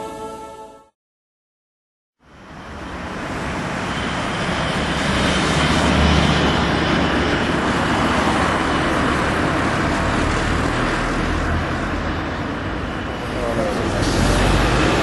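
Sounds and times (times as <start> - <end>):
city street hiss: 2.2 - 15.0.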